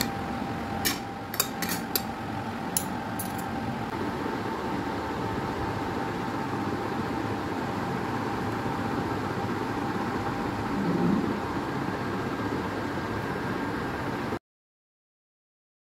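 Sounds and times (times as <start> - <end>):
steady background hum: 0.0 - 14.4.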